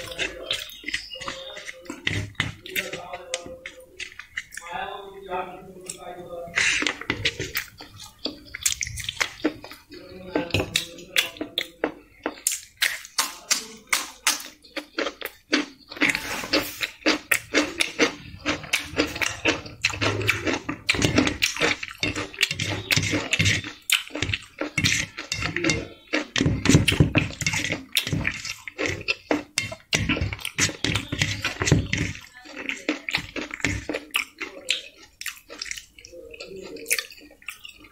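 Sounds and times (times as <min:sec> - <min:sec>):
chewing with wet smacks: 0:00.0 - 0:04.9, 0:05.8 - 0:37.9
fingers mixing rice on steel plate: 0:00.0 - 0:37.9.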